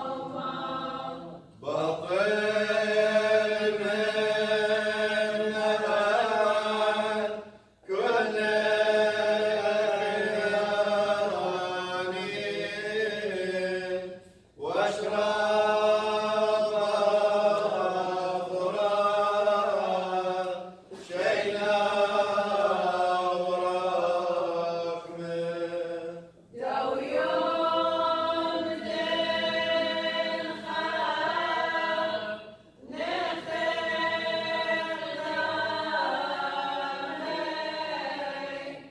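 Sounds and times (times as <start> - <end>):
choir singing liturgical chant: 0.0 - 38.9.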